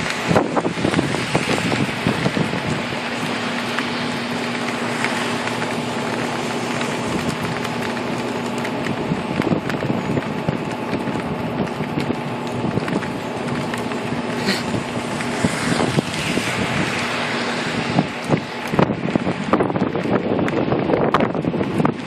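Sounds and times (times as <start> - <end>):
heavy rain hissing: 0.0 - 21.0
drips and splashes: 0.0 - 22.0.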